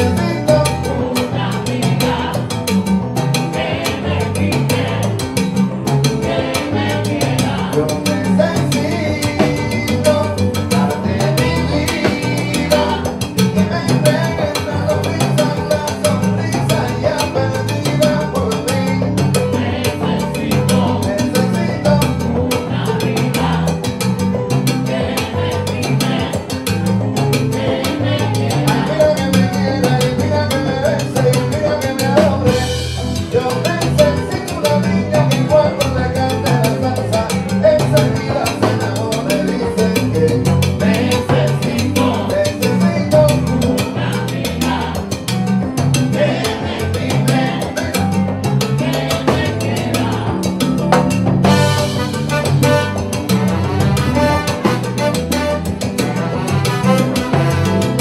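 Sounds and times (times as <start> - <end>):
backing vocal chorus: 0.0 - 58.0
drum kit and percussion: 0.0 - 58.0
lead singer: 0.0 - 58.0.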